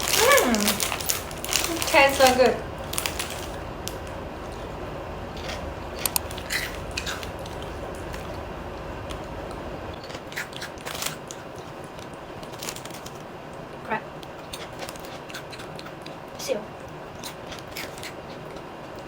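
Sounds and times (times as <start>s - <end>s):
person chewing crunchy cracker: 0.0s - 8.5s, 9.1s - 13.6s, 14.2s - 19.0s.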